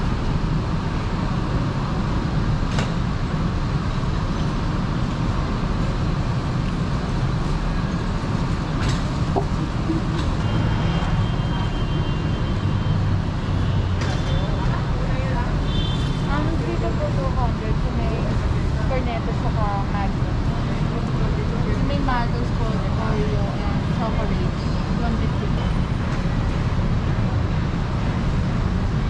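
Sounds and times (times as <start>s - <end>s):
busy market rumble: 0.0s - 29.0s.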